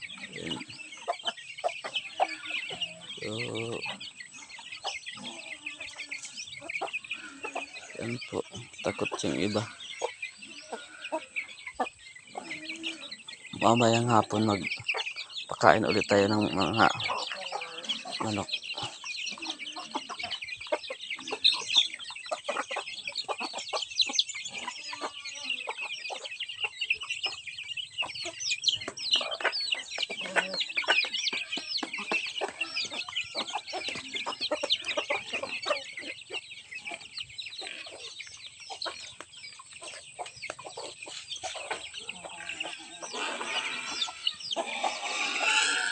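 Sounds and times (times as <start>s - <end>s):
chickens clucking: 0.0s - 45.9s
chicks peeping: 0.0s - 45.9s.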